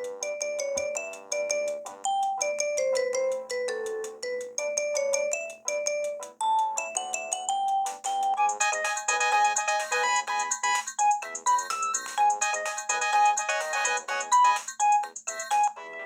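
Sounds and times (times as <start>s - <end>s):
polyphonic phone ringtone: 0.0s - 16.0s.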